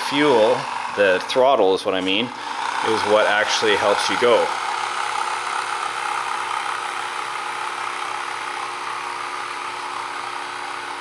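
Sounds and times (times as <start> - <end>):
small electric motor whine: 0.0 - 11.0.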